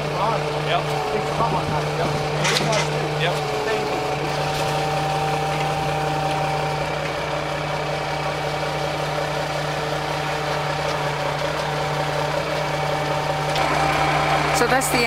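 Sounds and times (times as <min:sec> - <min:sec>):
high engine whine: 0:00.0 - 0:15.0
truck engine idling: 0:00.0 - 0:15.0.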